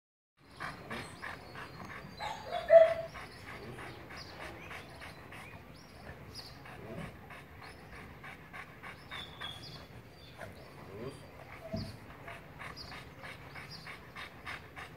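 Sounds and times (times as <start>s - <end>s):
dog panting: 0.4s - 14.9s.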